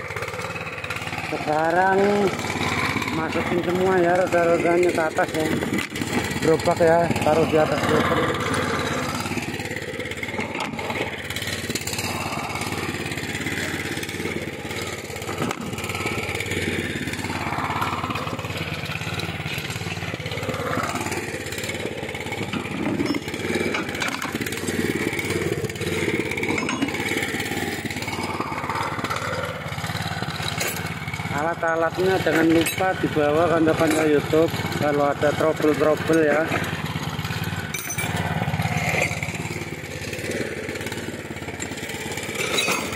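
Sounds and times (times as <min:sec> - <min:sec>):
small petrol engine running: 0:00.0 - 0:42.9.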